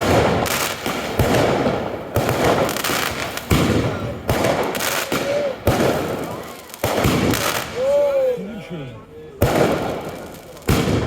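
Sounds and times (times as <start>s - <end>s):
fireworks bursting loudly: 0.0s - 11.0s
fireworks crackling: 0.0s - 11.0s.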